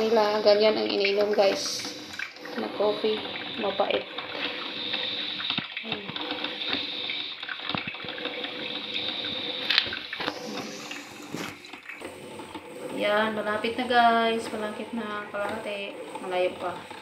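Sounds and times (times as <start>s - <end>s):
coffee maker bubbling and trickling: 0.0s - 17.0s.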